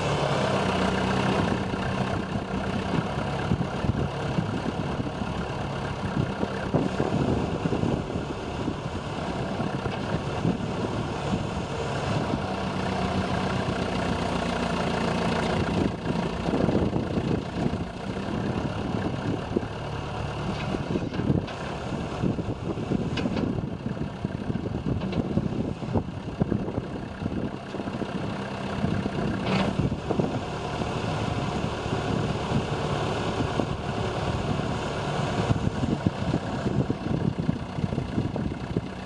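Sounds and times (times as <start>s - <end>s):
loader backhoe engine running: 0.0s - 39.0s.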